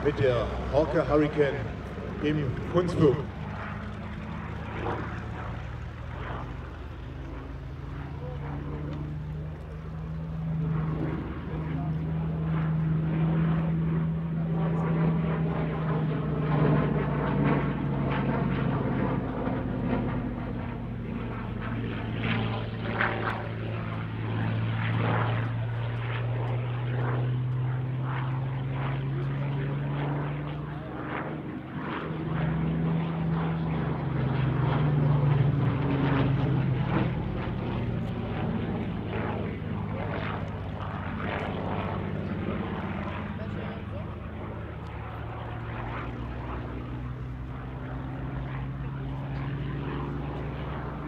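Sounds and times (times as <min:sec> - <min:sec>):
aircraft engine running hard: 0:00.0 - 0:51.0.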